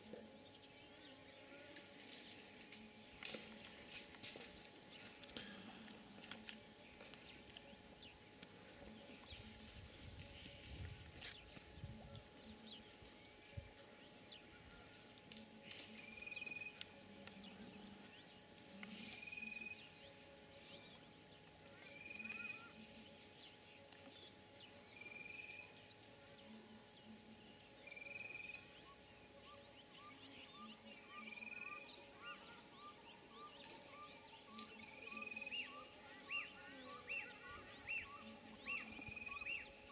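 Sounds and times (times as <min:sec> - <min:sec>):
insect hiss: 0:00.0 - 0:39.9.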